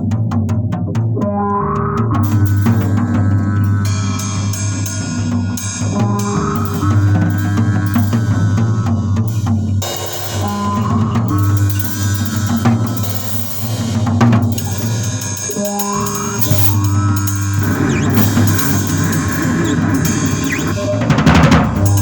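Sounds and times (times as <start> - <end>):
drums and cymbals: 0.0 - 1.4, 2.0 - 22.0
low bass notes: 0.0 - 22.0.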